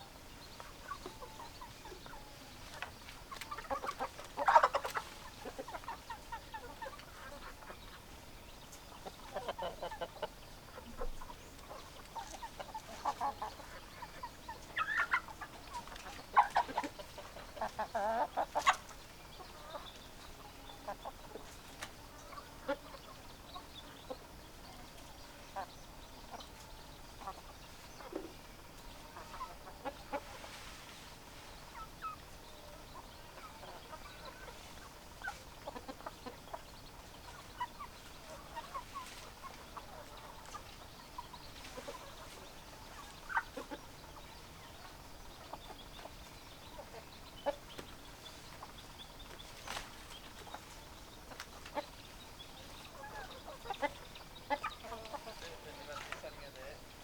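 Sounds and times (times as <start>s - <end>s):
faint background hiss: 0.0s - 57.0s
hens clucking: 0.0s - 57.0s.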